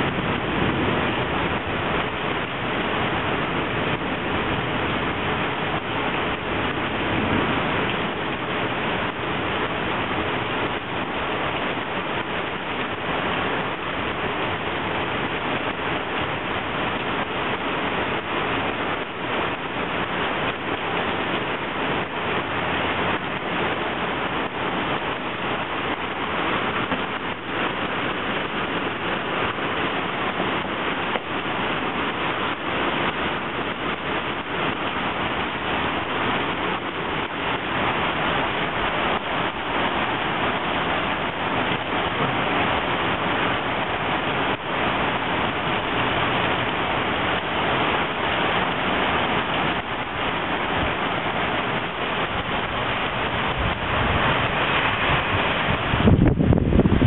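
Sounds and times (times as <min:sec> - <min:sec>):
heavy rain on flooded street: 0:00.0 - 0:57.0.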